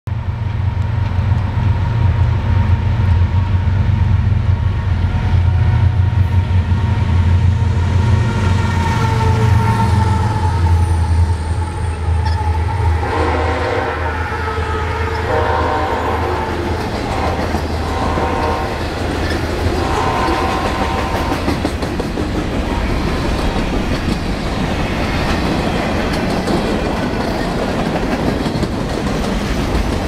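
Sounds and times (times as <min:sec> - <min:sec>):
deep locomotive engine drone: 0:00.1 - 0:30.0.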